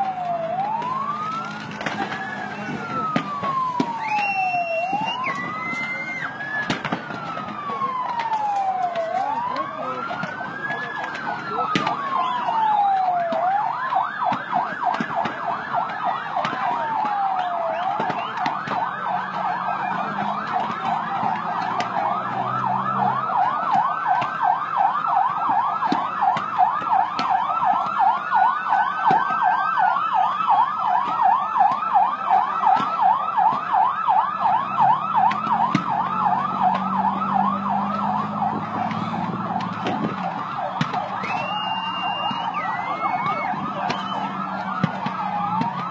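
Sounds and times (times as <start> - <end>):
emergency siren yelp: 0.0 - 45.9
siren wails: 0.0 - 45.9.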